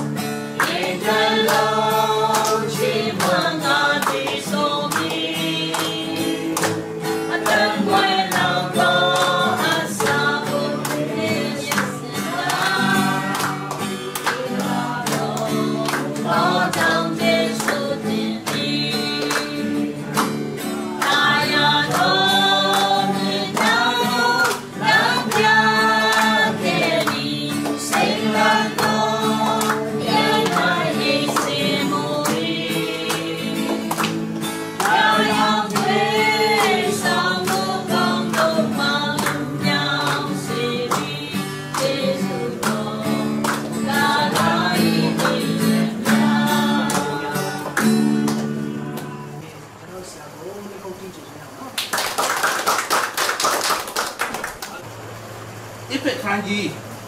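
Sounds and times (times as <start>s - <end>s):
hands clapping a beat: 0.0s - 49.3s, 51.8s - 54.8s
group singing: 0.0s - 49.4s
acoustic guitar: 0.0s - 51.7s.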